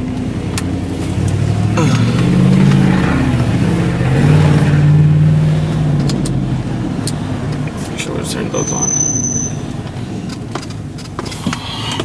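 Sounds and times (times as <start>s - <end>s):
truck engine accelerating: 0.0s - 12.0s.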